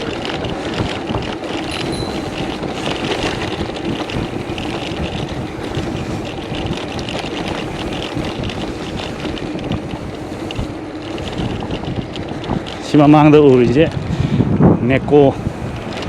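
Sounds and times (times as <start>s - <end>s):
road noise: 0.0s - 16.0s
wind on microphone: 0.0s - 16.0s.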